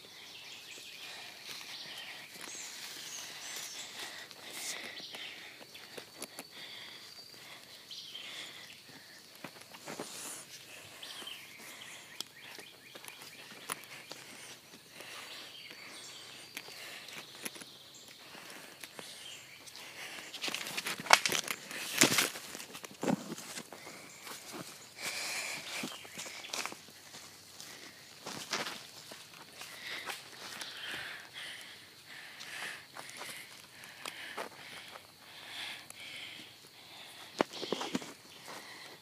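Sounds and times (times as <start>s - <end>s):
footsteps on dry leaves and twigs: 0.0s - 35.6s, 36.3s - 39.0s.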